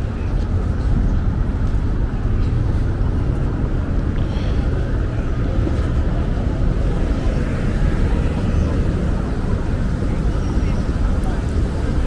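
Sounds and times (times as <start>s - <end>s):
downtown street noise: 0.0s - 12.0s
wind buffeting microphone: 0.0s - 12.0s.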